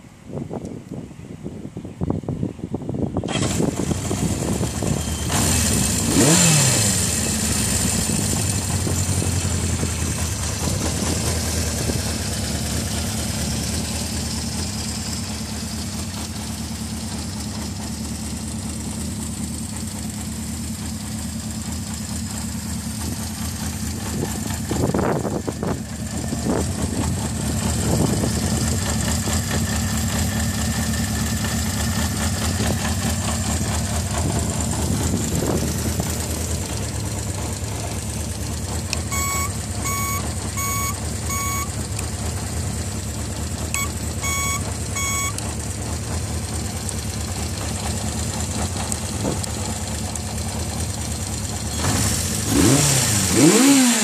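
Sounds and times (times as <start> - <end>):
engine throttle blips: 3.2 - 18.6, 19.6 - 54.0
motorcycle engine idling: 3.2 - 53.6.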